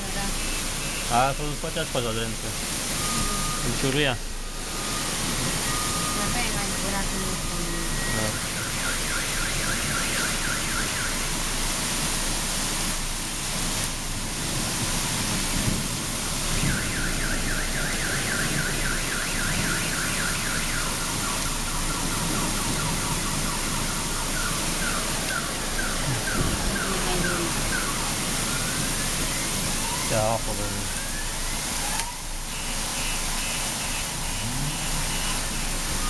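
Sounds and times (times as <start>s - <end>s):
car alarm chirping: 0.0s - 11.8s, 16.4s - 36.0s
rain pouring on a street: 0.0s - 36.0s.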